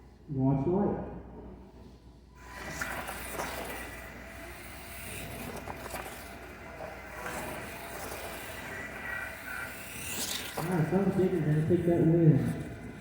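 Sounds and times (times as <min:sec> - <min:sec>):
rc trucks motors racing: 0:02.4 - 0:13.0.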